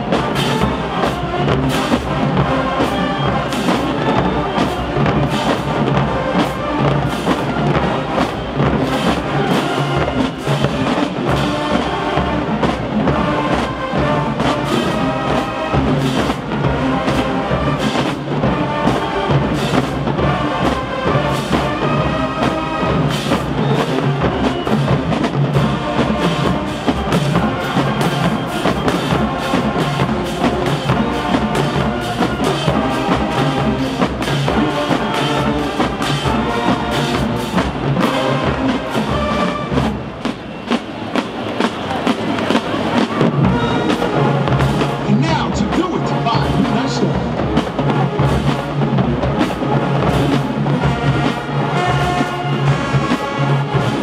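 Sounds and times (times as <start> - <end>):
brass chords: 0.0 - 54.0
drumline beat: 0.0 - 54.0.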